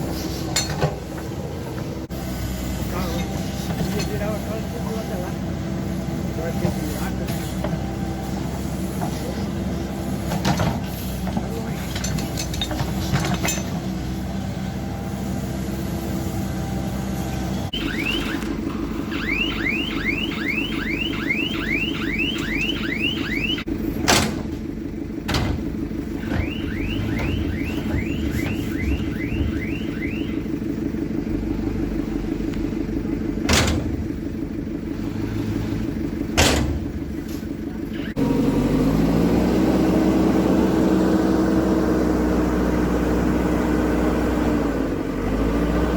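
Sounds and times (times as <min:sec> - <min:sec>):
diesel engines running: 0:00.0 - 0:45.9.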